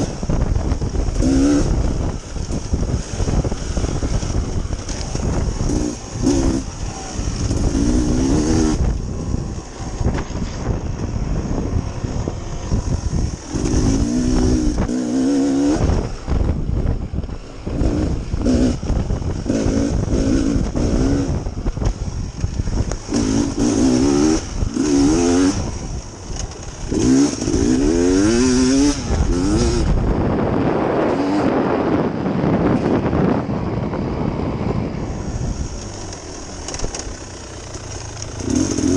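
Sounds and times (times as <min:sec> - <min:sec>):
dirt bike engine revving: 0:00.0 - 0:30.0, 0:34.1 - 0:38.9.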